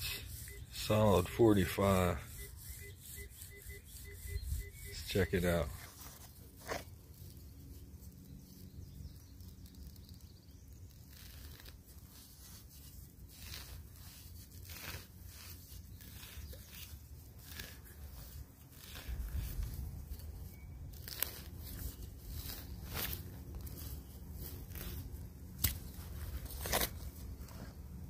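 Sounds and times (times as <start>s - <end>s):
low steady rumble: 0.0s - 28.0s
knife tearing soil and roots: 4.8s - 28.0s.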